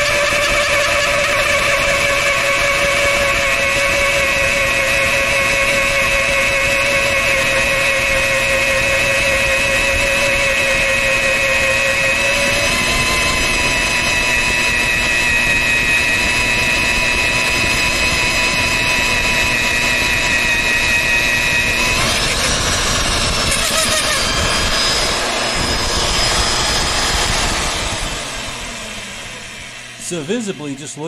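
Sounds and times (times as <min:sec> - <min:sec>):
drill press cutting steel: 0:00.0 - 0:31.0.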